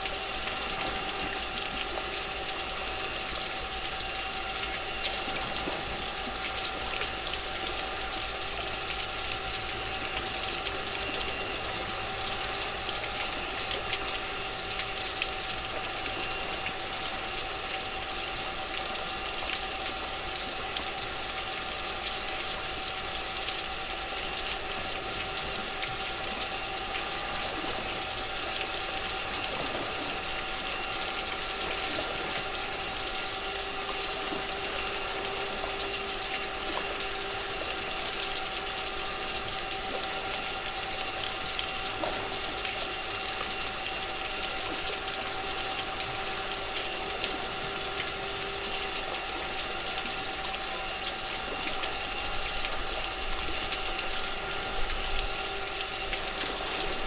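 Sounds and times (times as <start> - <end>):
sea water washing: 0.0 - 57.0.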